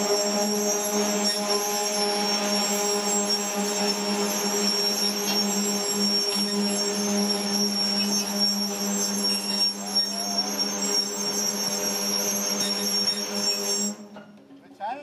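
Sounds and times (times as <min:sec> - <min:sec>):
machinery humming with high whine: 0:00.0 - 0:14.6.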